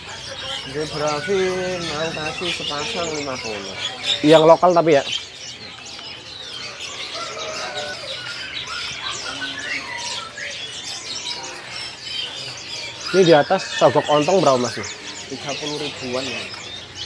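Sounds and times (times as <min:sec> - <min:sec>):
songbirds chirping and twittering: 0:00.0 - 0:17.0.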